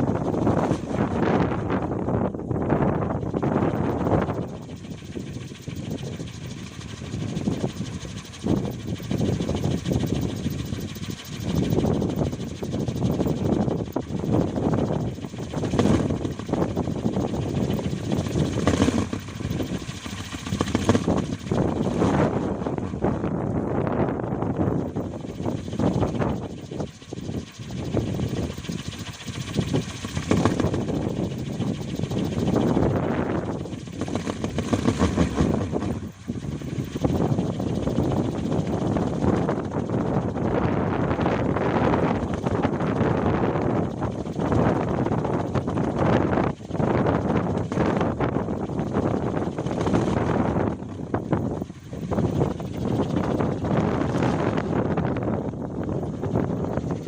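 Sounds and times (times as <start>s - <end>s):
wind buffeting microphone: 0.0s - 57.0s
wind propeller whirring: 0.0s - 57.0s.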